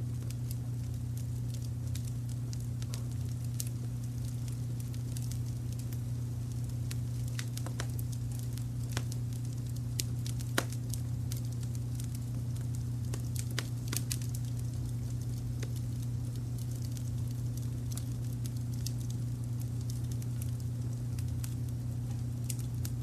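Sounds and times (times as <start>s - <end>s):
low brown noise rumble: 0.0s - 23.0s
wood fire crackling: 0.0s - 23.0s.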